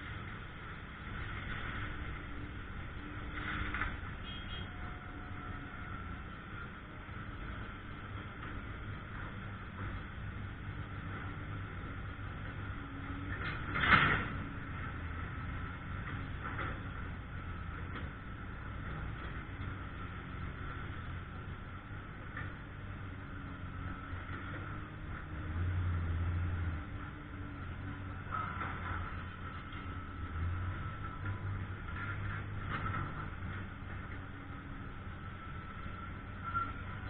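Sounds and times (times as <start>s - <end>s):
heavy equipment engine hum: 0.0s - 37.0s.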